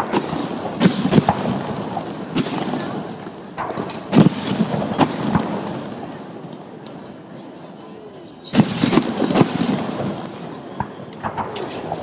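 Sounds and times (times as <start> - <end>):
fireworks booming: 0.0 - 6.8, 8.5 - 12.0.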